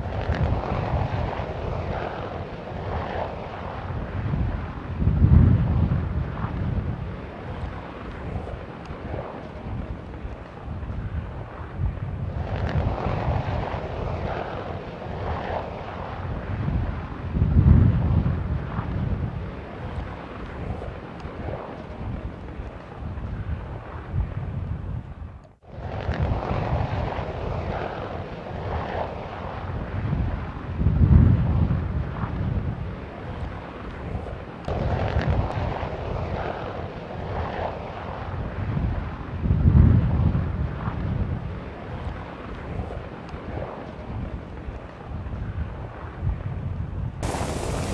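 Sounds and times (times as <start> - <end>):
helicopter rotor and turbine rumble: 0.0 - 47.9.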